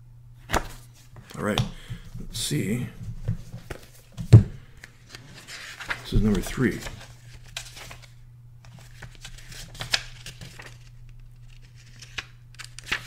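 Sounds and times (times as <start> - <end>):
low steady hum: 0.0 - 13.0
paper pages rustling: 0.5 - 1.3, 3.0 - 13.0.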